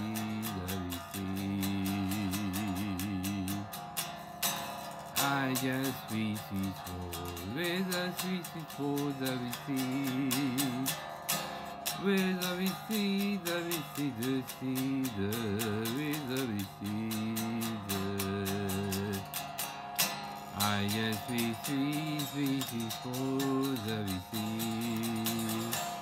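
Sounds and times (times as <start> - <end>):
electric guitar melody: 0.0 - 26.0
light clicking beat: 0.0 - 26.0.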